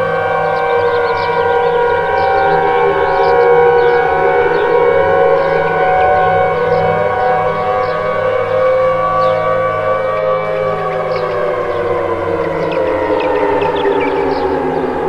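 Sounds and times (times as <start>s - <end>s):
warning sirens wailing: 0.0s - 15.0s.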